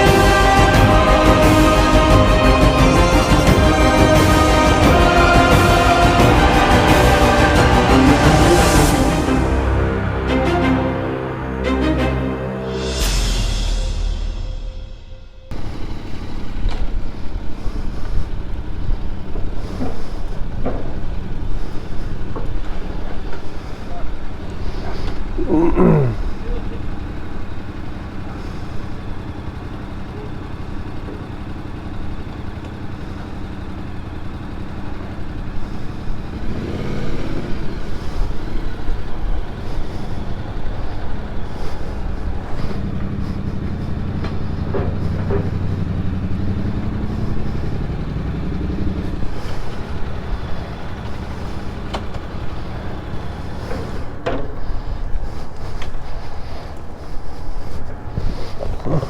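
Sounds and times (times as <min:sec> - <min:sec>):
motorcycle engine running: 0:00.0 - 0:10.0, 0:12.8 - 0:59.0.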